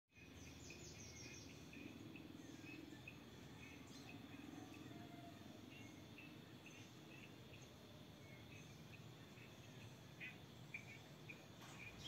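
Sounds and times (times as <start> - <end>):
birds chirping: 0.1 - 12.0
low background noise: 0.2 - 12.0.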